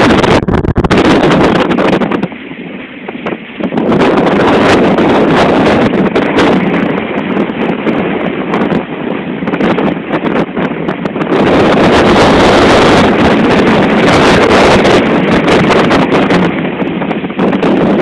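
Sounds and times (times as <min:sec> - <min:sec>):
heavy seas breaking on hull: 0:00.0 - 0:18.0
wind buffeting microphone: 0:00.0 - 0:18.0.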